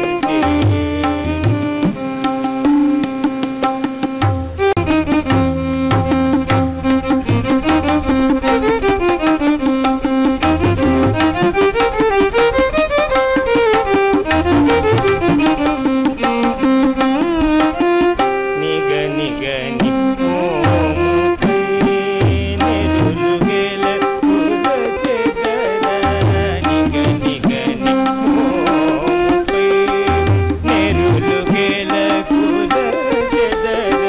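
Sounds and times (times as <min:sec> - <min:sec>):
person singing: 0:00.0 - 0:34.0
tabla drumming: 0:00.0 - 0:34.0
violin melody: 0:00.0 - 0:34.0.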